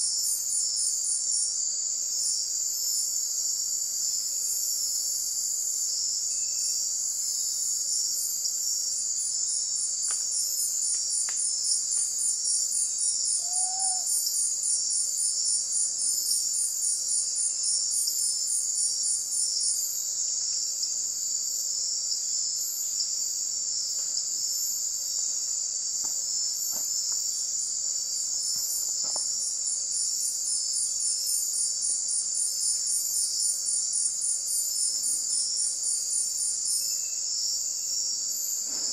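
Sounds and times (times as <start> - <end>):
insect high-pitched drone: 0.0 - 38.9
pulsing insect trill: 0.0 - 38.9.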